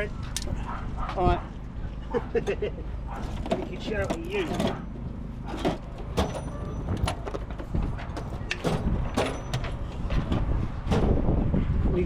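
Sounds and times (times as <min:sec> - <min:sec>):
low wind rumble on microphone: 0:00.0 - 0:12.0.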